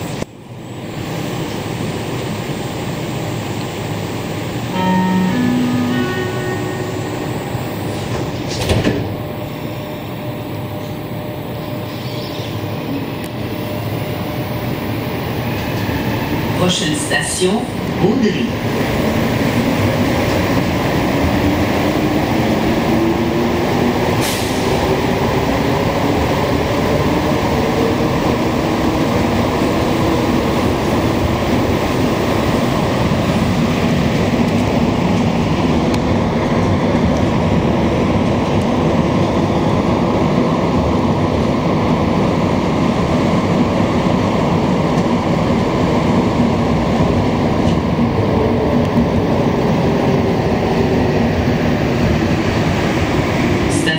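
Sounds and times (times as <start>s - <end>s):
train rumbling in tunnel: 0.0s - 53.9s.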